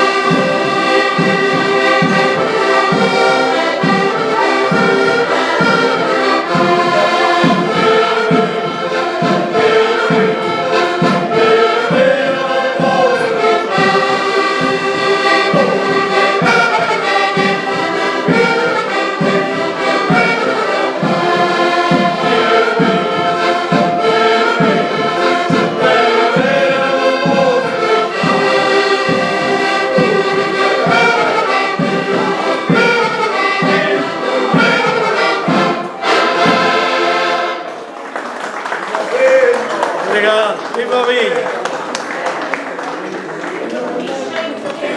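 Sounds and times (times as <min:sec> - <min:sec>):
steady low beat: 0:00.0 - 0:37.3
brass band music: 0:00.0 - 0:37.8.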